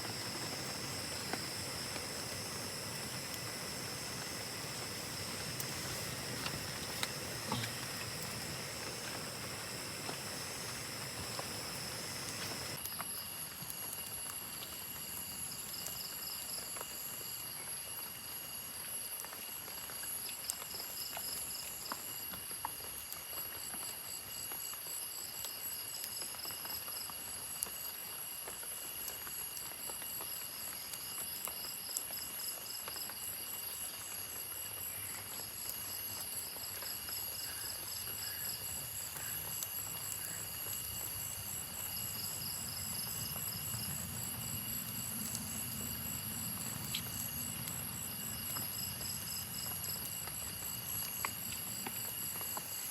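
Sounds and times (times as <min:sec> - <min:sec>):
steady hiss: 0:00.0 - 0:19.7, 0:25.2 - 0:52.9
insects chirring in pulsing bursts: 0:00.0 - 0:22.4, 0:23.4 - 0:52.9
steady insect whine: 0:00.0 - 0:52.9.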